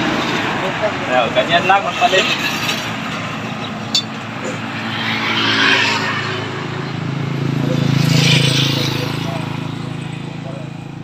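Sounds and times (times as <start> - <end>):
vehicle engine passing by: 2.0 - 11.0.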